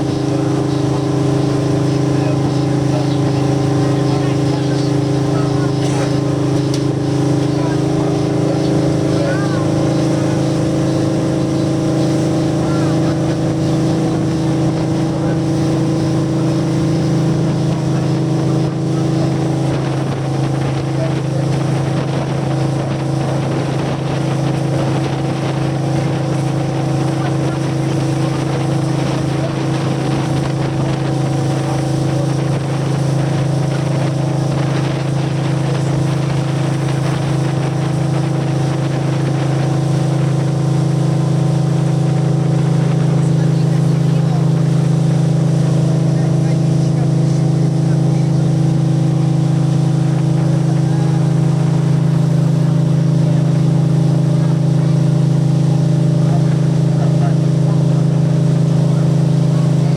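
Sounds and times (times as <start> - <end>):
ship diesel engine droning: 0.0 - 59.9
wind and water rushing: 0.0 - 59.9.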